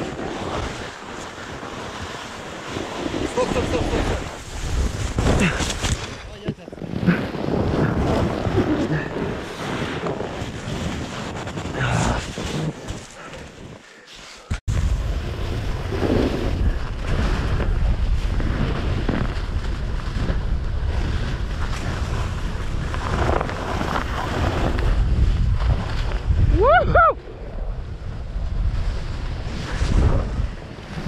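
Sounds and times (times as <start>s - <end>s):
wind buffeting microphone: 0.0s - 13.9s, 14.6s - 31.0s
snowboard sliding over snow: 0.0s - 31.0s.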